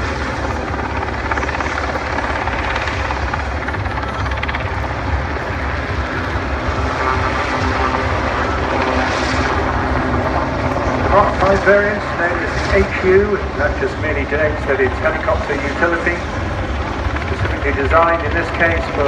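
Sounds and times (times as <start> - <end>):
helicopter engine whine: 0.0 - 19.0
helicopter rotor beat: 0.0 - 19.0.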